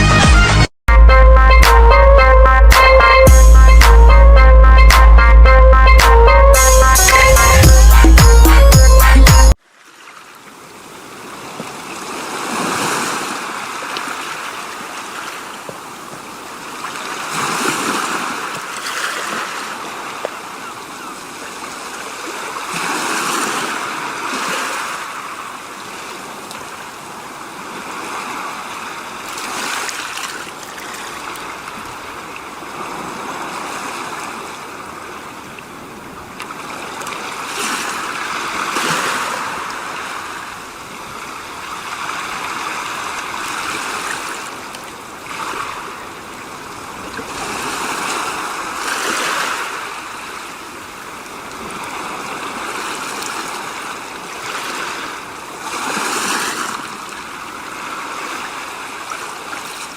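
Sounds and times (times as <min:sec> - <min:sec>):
rushing water: 0:09.5 - 0:59.9.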